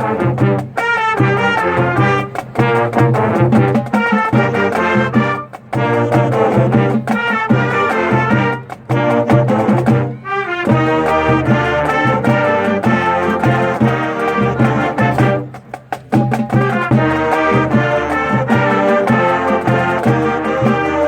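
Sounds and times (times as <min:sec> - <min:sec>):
band playing up-tempo piece: 0:00.0 - 0:21.0.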